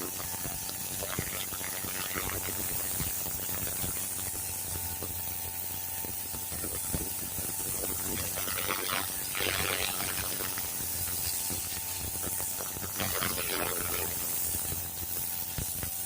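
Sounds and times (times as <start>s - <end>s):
pressure washer motor hum: 0.0s - 16.0s
water jet hissing on brick: 0.0s - 16.0s.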